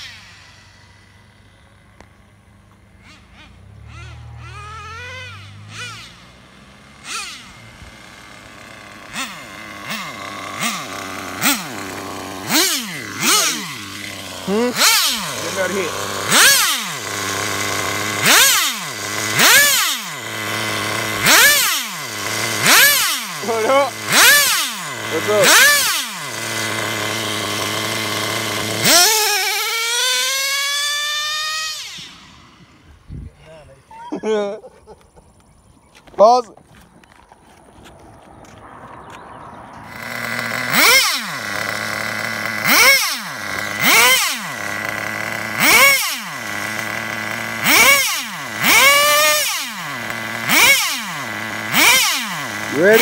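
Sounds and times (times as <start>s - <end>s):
nitro engine revving: 0.0s - 34.6s, 36.3s - 53.0s.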